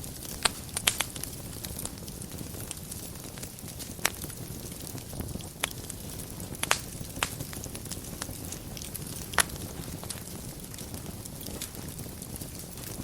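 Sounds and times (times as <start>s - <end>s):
fire crackling and popping: 0.0s - 13.0s
fire flame rumble: 0.0s - 13.0s.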